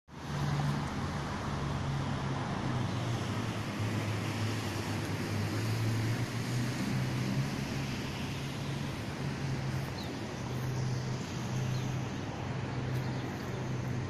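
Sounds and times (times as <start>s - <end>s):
low engine-like hum: 0.1s - 14.0s
outdoor background noise: 0.1s - 14.0s.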